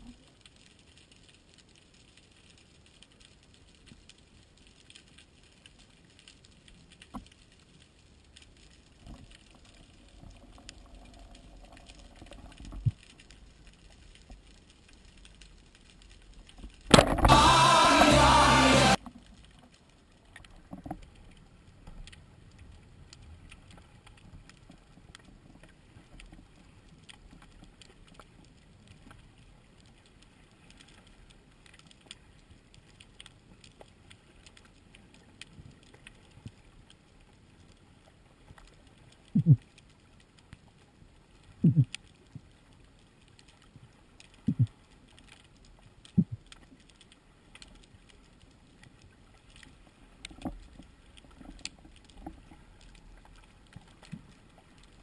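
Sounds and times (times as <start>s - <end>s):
faint crackling clicks: 0.0s - 17.3s, 19.0s - 55.0s.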